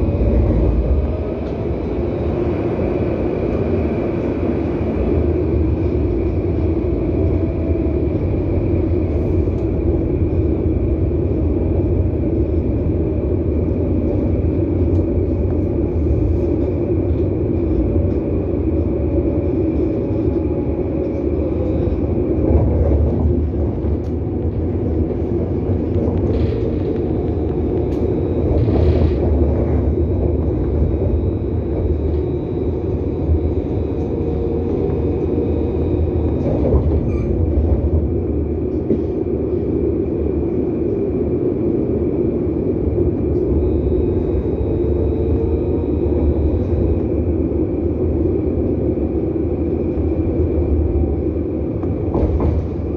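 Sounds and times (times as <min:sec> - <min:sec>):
tram running rumble: 0:00.0 - 0:52.9.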